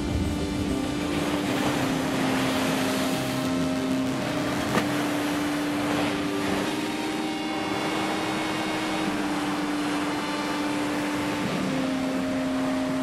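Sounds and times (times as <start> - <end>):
low droning hum: 0.0 - 13.0
waves breaking against seawall: 1.2 - 11.9.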